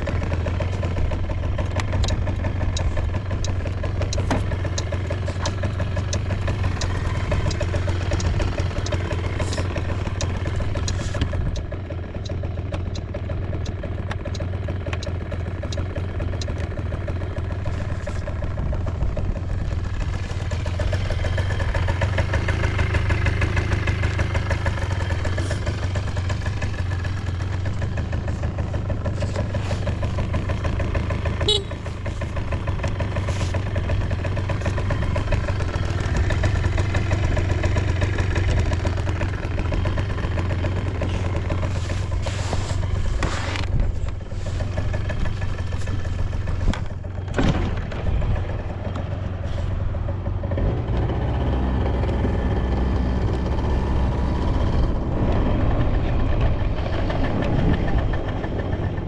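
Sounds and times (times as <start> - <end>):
scooter engine idling: 0.0 - 59.0.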